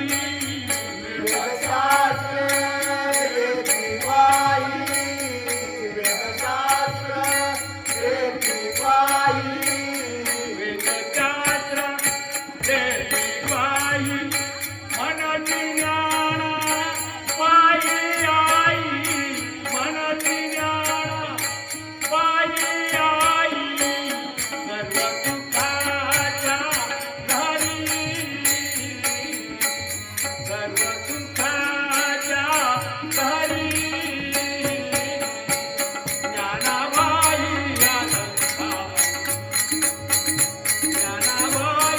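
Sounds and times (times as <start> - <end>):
devotional singing: 0.0 - 29.7, 30.4 - 39.4
jingling hand cymbals: 0.0 - 41.9.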